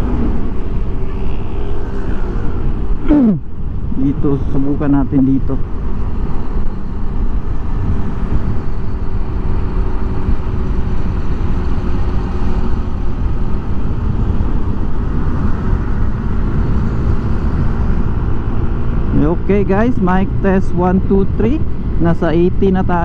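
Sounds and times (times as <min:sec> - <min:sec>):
motorcycle engine drone: 0:00.0 - 0:23.0
wind rumble: 0:00.0 - 0:23.0.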